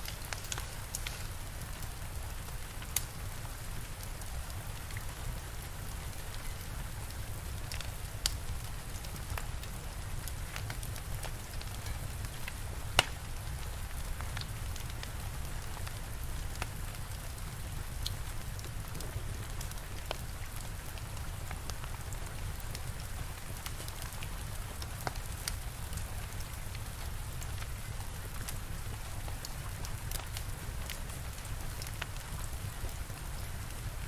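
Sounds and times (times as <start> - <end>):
steady rain: 0.0 - 34.0
wood fire crackling and popping: 0.0 - 34.0.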